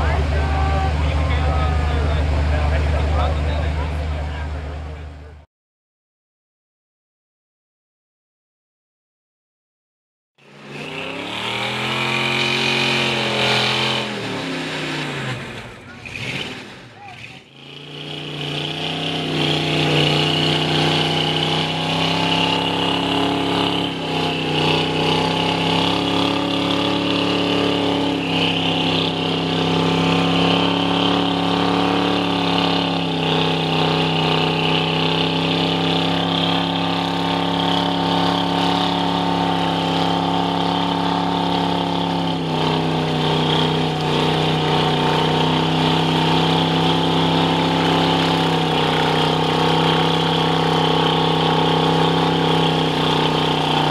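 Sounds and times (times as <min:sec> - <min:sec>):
pickup engine at high revs: 0:00.0 - 0:05.1, 0:10.4 - 0:53.9
tires churning through mud: 0:00.0 - 0:05.4, 0:10.4 - 0:53.9.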